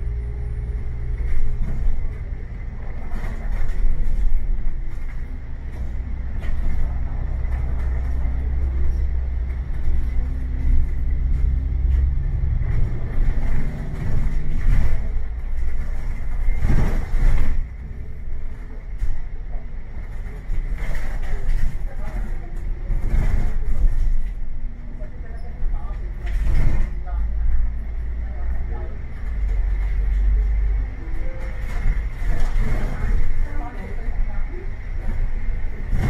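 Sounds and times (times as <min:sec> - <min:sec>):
bus engine rumble: 0:00.0 - 0:36.0
road noise: 0:00.0 - 0:36.0.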